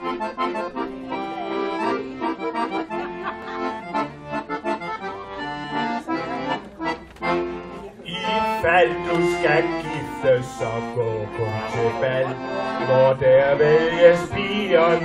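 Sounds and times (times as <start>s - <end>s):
accordion playing a tune: 0.0s - 15.0s.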